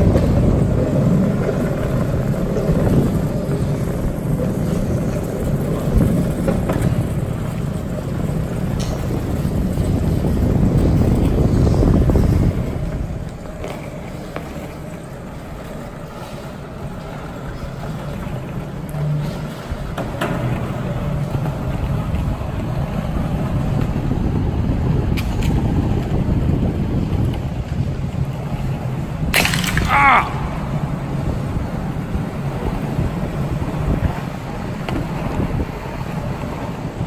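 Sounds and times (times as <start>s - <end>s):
skateboard wheels rolling on concrete: 0.0s - 37.0s.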